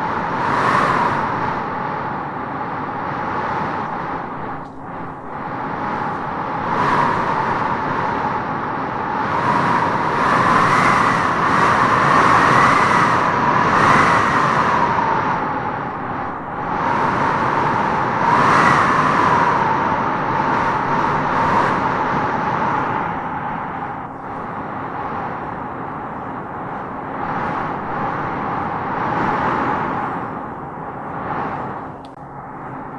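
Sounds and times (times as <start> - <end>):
strong gusting wind: 0.0 - 32.9
wavering wind whistle: 0.0 - 32.9.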